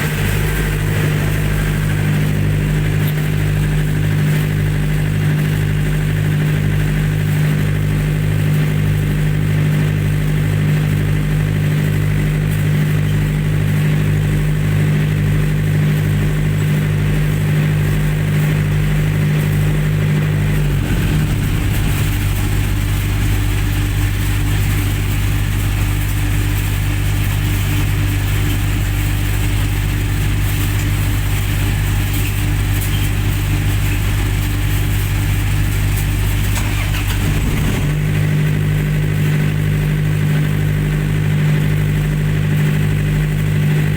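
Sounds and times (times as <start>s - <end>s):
generator engine running: 0.0s - 43.9s.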